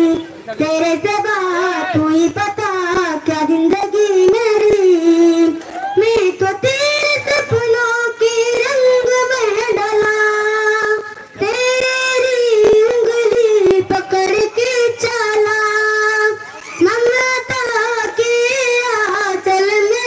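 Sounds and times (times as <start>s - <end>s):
boy singing into microphone: 0.0s - 20.0s.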